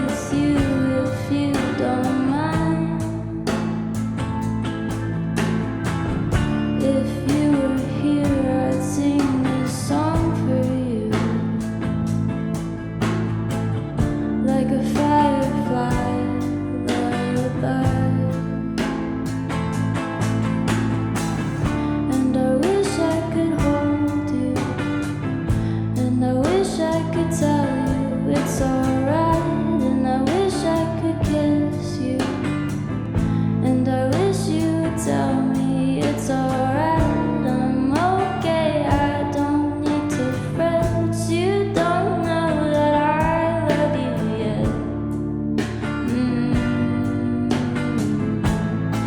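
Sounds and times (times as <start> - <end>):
guitar melody: 0.0 - 49.0
live band instrumental: 0.0 - 49.0.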